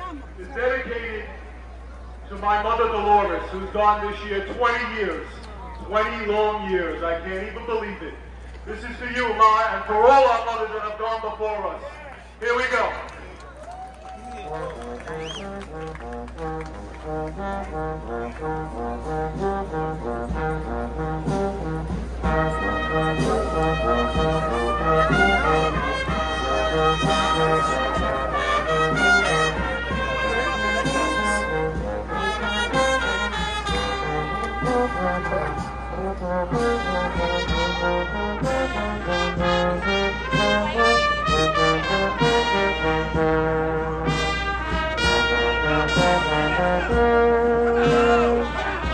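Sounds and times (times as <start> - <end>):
brass band playing: 2.1 - 13.0, 14.1 - 48.9.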